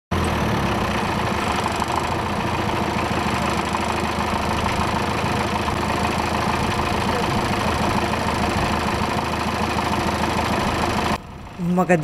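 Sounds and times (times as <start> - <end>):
diesel truck engine idling: 0.1 - 12.0.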